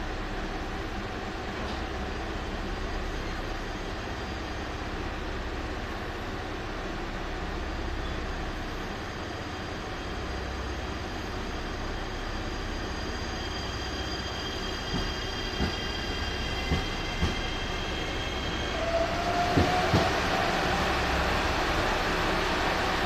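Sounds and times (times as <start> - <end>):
electric train inverter whining: 0.3 - 23.0.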